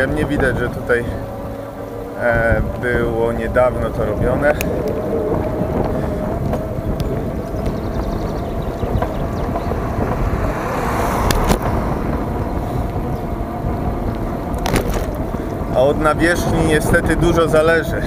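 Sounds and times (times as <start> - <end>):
bike tyre noise: 0.0 - 18.0
wind rumbling on microphone: 0.0 - 18.0.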